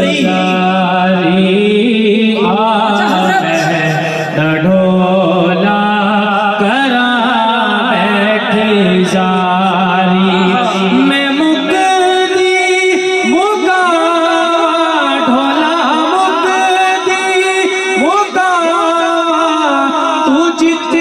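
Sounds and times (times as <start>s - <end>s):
man singing into microphone: 0.0s - 21.0s.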